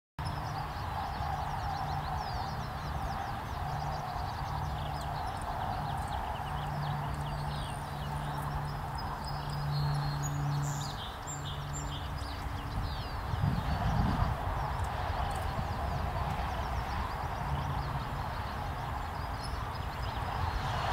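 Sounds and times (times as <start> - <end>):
goldfinches twittering: 0.2 - 20.7.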